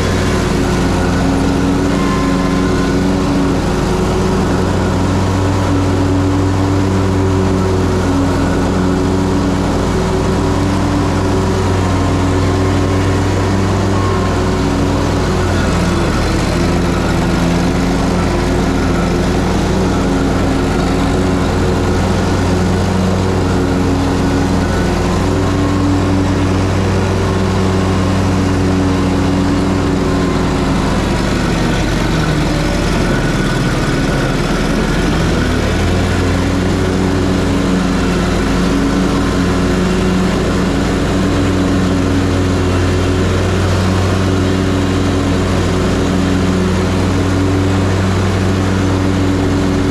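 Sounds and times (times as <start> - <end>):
mower engine running: 0.0 - 49.9.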